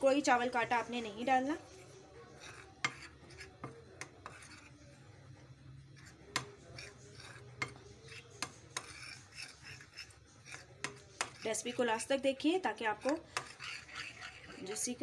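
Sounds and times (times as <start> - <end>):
spoon scraping flour in bowl: 0.1 - 15.0.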